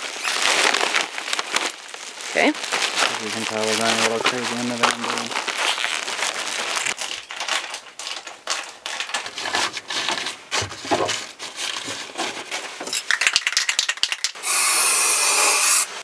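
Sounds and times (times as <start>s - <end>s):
plastic tarp crinkling: 0.0s - 14.3s.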